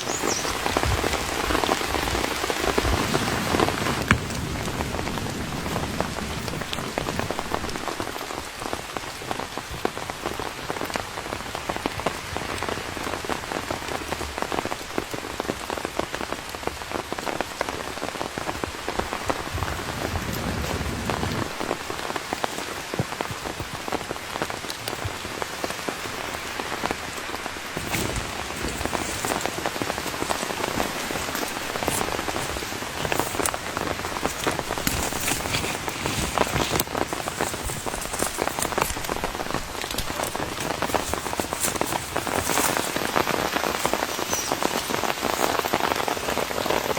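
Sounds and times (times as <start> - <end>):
steady rain: 0.0 - 46.9
raindrop hits: 0.5 - 46.9.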